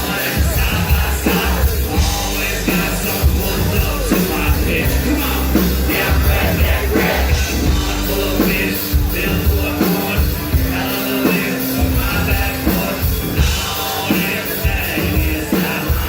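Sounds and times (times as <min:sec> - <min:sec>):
loud live band music: 0:00.0 - 0:16.0
person singing or rapping: 0:00.0 - 0:16.0.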